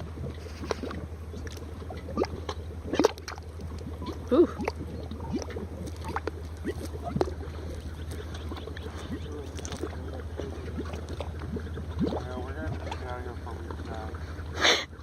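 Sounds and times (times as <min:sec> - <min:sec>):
mud bubbling and plopping: 0:00.0 - 0:15.0.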